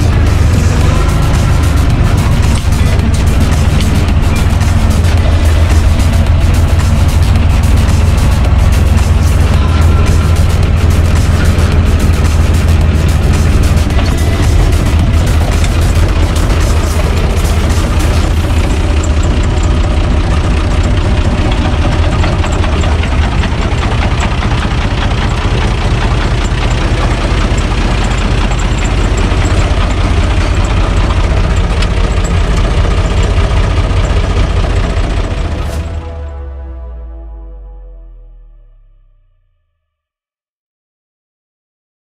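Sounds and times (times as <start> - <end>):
tractor diesel engine running: 0.0 - 39.1.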